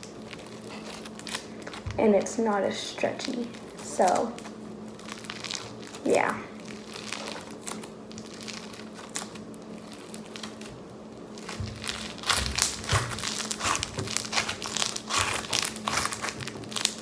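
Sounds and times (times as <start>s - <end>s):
crunchy crackling of slime beads: 0.0s - 17.0s.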